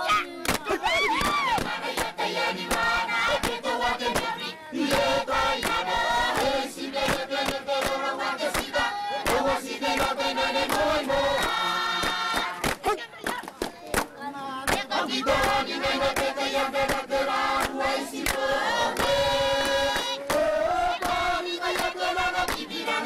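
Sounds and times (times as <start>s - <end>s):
group chanting song: 0.0s - 13.1s, 13.9s - 23.0s.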